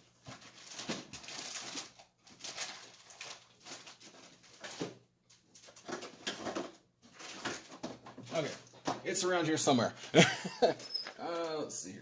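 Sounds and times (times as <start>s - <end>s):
rustling and scraping of boxes: 0.1s - 10.0s.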